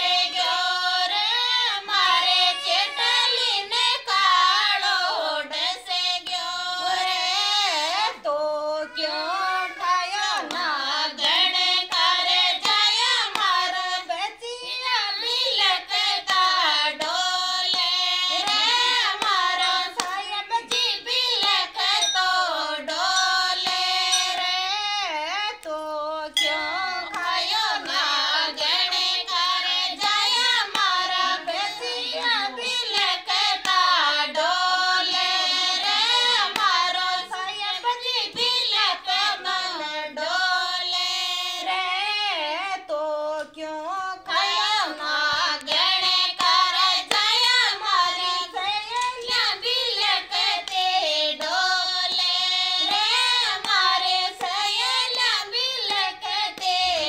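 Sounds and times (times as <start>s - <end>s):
women singing folk song together: 0.0s - 57.0s.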